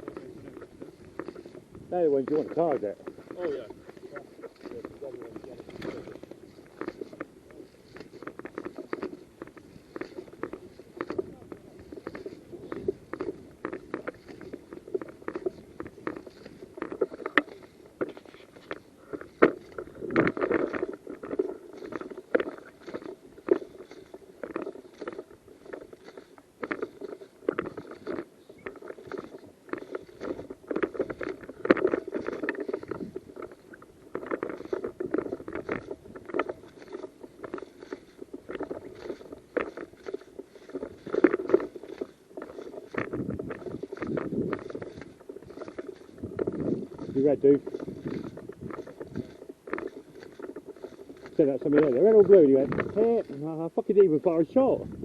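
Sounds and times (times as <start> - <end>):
clothing and gear rustling: 0.0 - 55.0.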